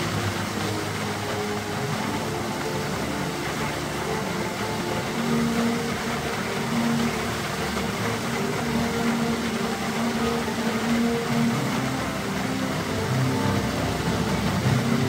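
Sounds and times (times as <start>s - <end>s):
faint held musical notes: 0.0s - 15.0s
fountain jet rushing into water: 0.0s - 15.0s.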